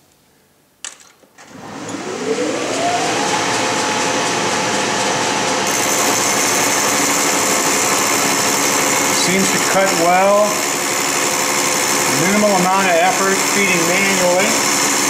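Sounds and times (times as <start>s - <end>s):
lathe motor whining: 1.4s - 15.0s.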